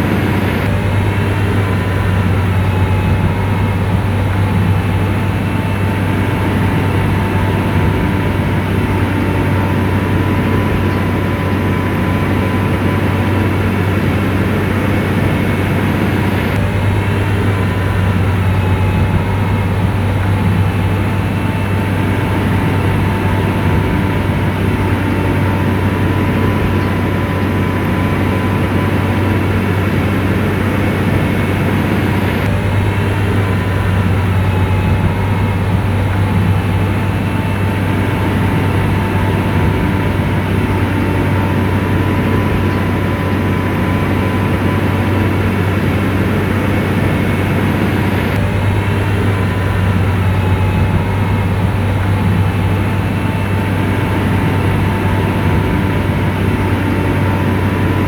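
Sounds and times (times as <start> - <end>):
bulldozer diesel engine humming: 0.0 - 58.0
thin whine: 0.0 - 58.0.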